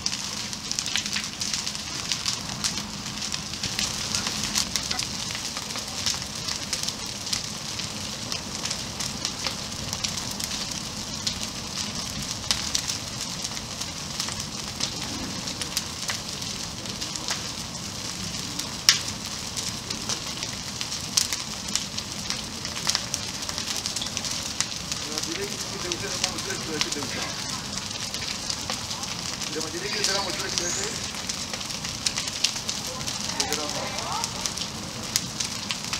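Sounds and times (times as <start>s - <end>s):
fire crackling and hissing: 0.0s - 35.9s
fire popping: 0.0s - 35.9s.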